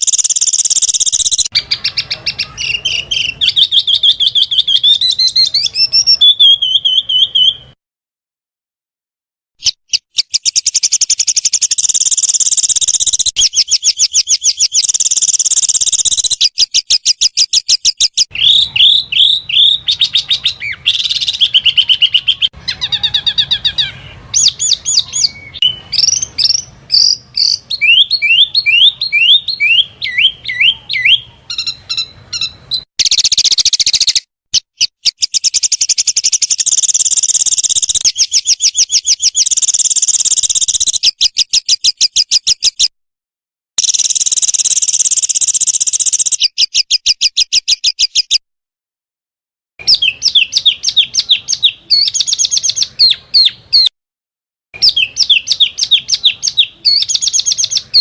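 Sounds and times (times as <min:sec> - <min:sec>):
songbirds trilling and whistling: 0:00.0 - 0:07.8, 0:09.6 - 0:42.9, 0:43.8 - 0:48.4, 0:49.8 - 0:53.9, 0:54.8 - 0:58.0.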